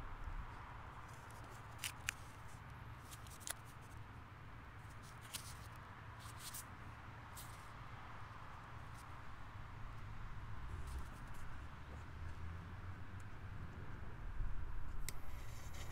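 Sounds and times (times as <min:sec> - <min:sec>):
faint steady background noise: 0:00.0 - 0:15.9.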